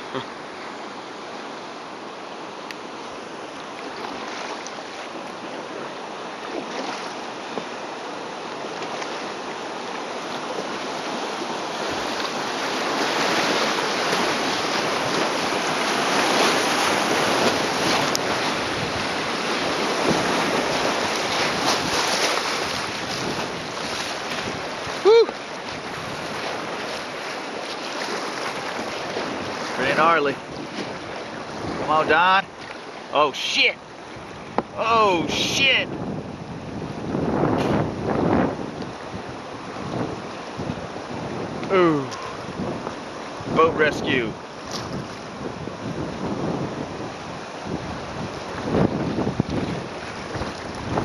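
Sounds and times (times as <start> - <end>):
rushing river rapids: 0.0 - 51.0.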